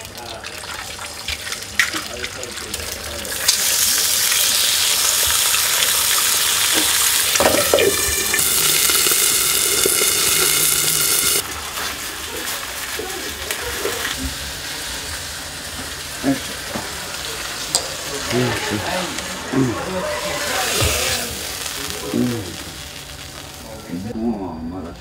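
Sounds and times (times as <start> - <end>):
eggs sizzling in a frying pan: 0.0 - 19.0, 19.9 - 24.3.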